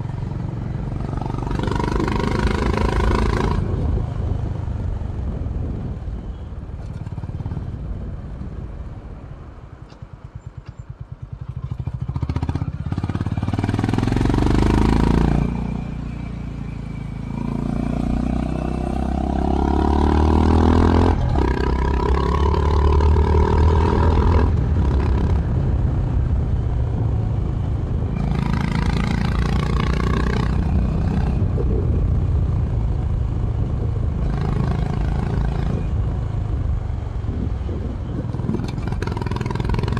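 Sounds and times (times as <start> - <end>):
motorcycle engine accelerating: 0.0 - 8.7, 9.9 - 39.9.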